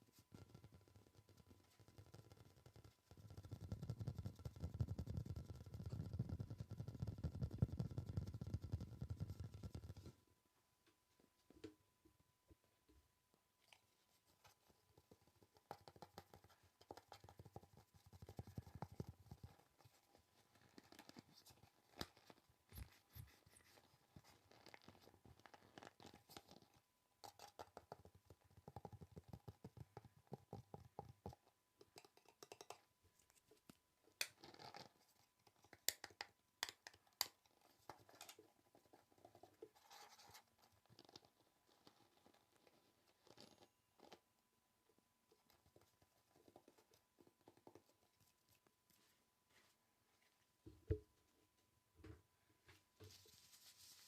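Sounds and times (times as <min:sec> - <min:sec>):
soft tapping and scratching: 0:00.0 - 0:44.3, 0:45.2 - 0:54.0.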